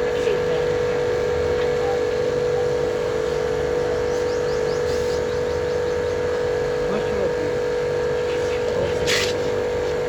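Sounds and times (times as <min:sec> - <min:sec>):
machine hum with steady tone: 0:00.0 - 0:10.0.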